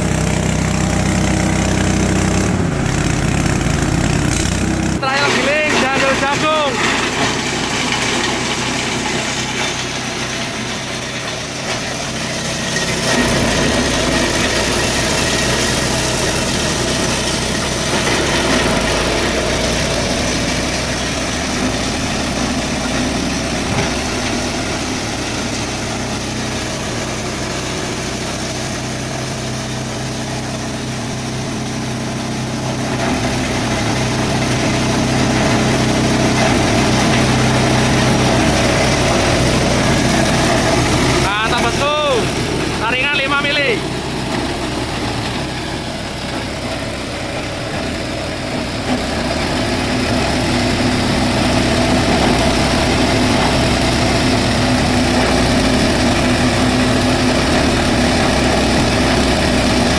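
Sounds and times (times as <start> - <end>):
engine drone: 0.0 - 59.9
grinder grinding corn cobs: 0.0 - 59.9.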